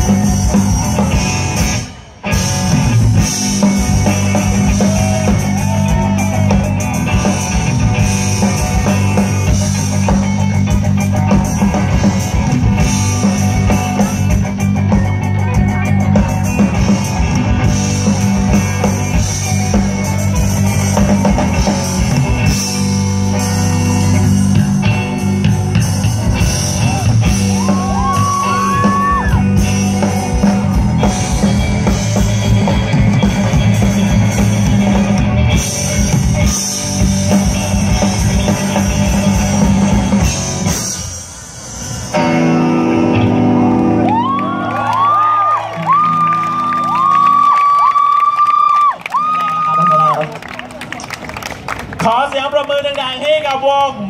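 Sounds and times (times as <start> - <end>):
drum kit: 0.0 - 48.0
electric guitars: 0.0 - 52.0
bass guitar: 0.0 - 52.2.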